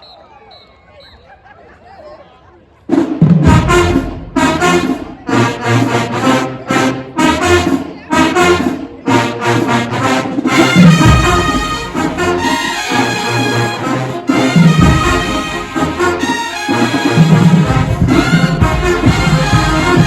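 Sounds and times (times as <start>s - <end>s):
marching drums: 2.9s - 20.0s
brass section playing chords: 3.3s - 20.0s.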